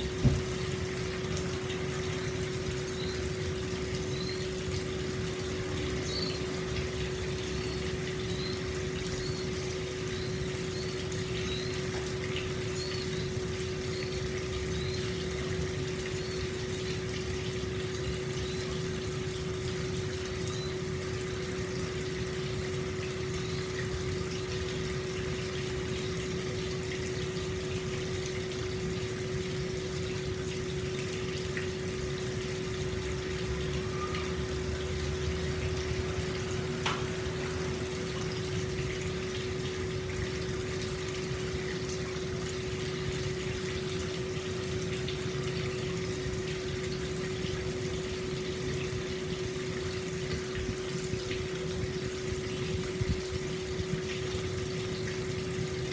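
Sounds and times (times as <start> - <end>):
water flowing into a bath: 0.0 - 55.9.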